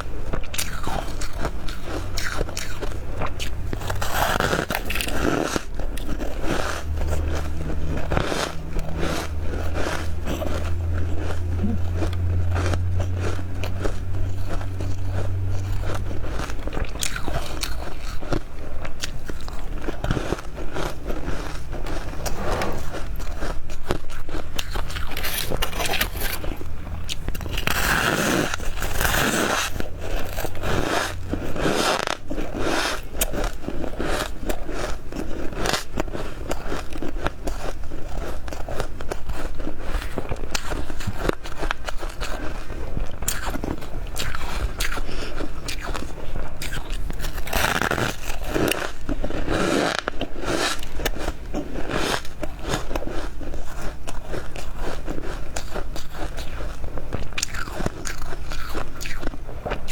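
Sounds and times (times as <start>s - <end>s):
chewing crunchy frost: 0.0s - 59.9s.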